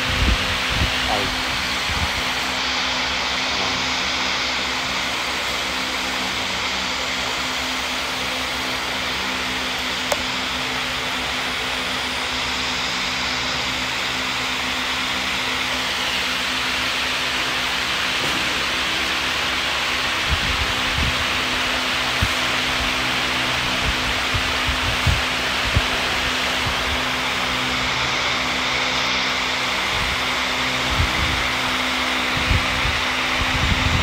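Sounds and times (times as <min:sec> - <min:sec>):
electric fan running: 0:00.0 - 0:34.0.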